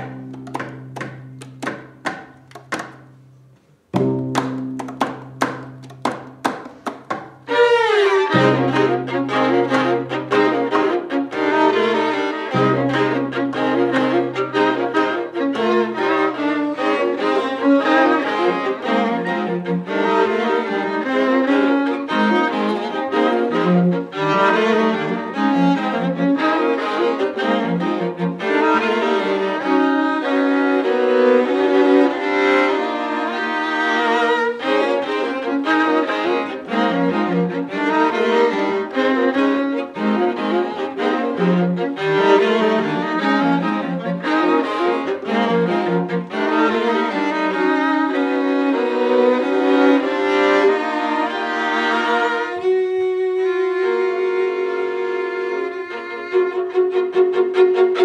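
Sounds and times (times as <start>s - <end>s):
string quartet playing: 0.0s - 58.0s.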